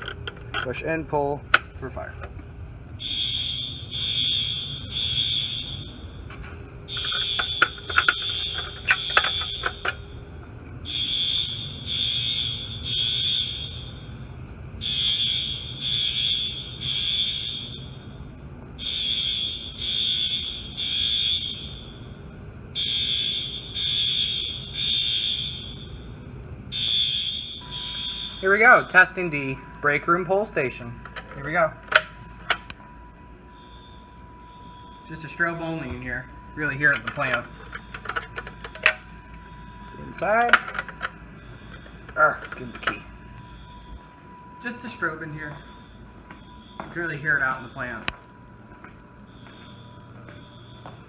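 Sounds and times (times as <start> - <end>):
fire alarm horn beeping: 2.9 - 51.0.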